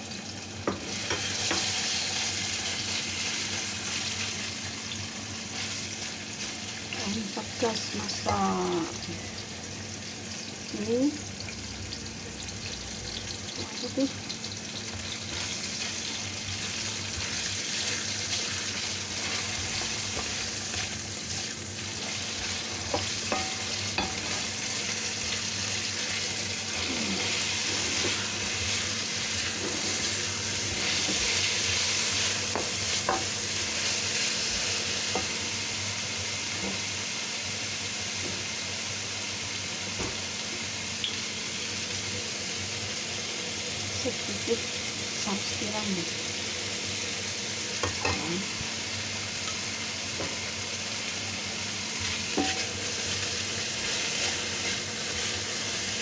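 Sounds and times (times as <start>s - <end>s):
chicken sizzling in oil: 0.0s - 56.0s.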